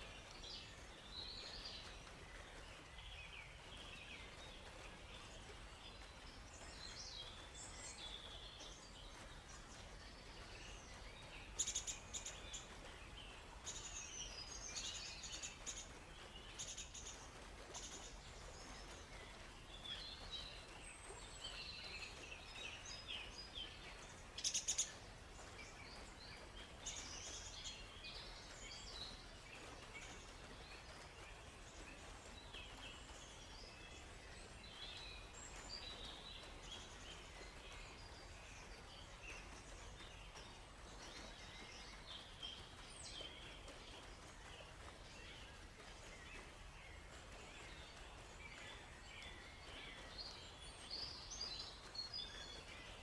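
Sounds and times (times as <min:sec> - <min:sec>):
faint background noise: 0:00.0 - 0:53.0.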